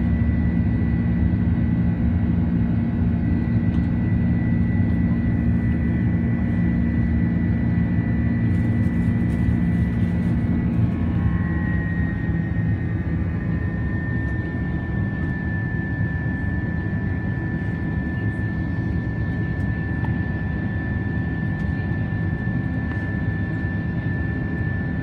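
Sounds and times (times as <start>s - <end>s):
high engine whine: 0.0s - 23.0s
jet engine roar in cabin: 0.0s - 25.0s.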